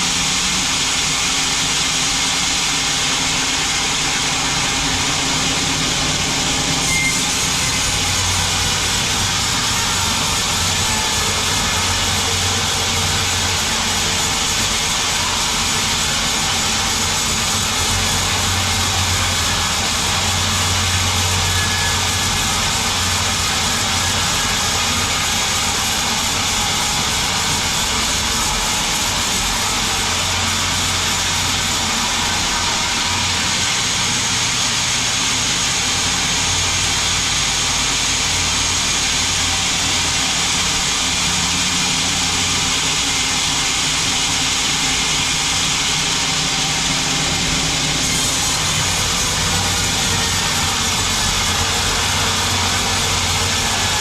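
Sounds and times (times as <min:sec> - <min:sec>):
band saw running: 0:00.0 - 0:54.0.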